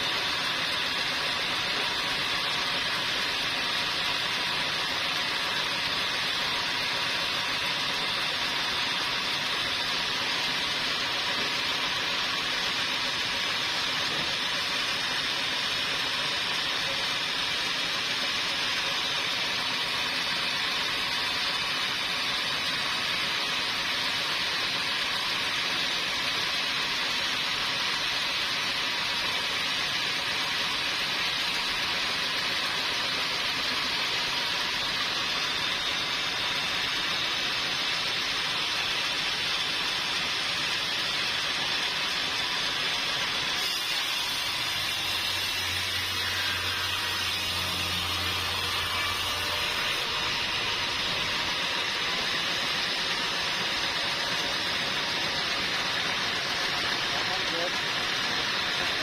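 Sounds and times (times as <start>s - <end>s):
sawmill machinery hiss: 0.0s - 59.0s.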